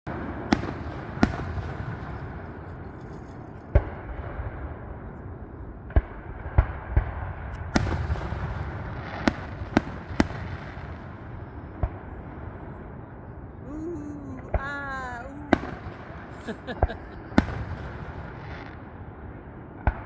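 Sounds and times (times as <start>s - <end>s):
fireworks bangs: 0.1s - 13.1s, 14.4s - 19.0s
continuous rumble: 0.1s - 20.0s.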